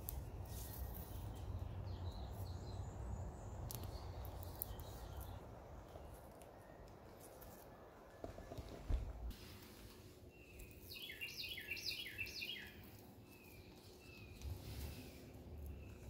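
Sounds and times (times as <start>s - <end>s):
distant bird chirps: 0.2s - 16.0s.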